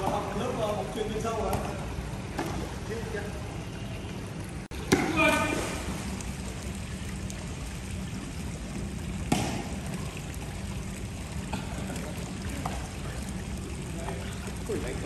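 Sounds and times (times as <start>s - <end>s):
pool water sloshing and splashing: 0.0s - 15.0s.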